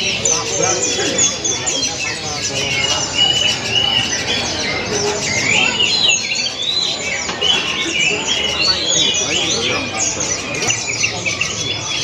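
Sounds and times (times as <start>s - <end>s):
murmur of voices: 0.0s - 12.0s
songbirds chirping and twittering: 0.0s - 12.0s.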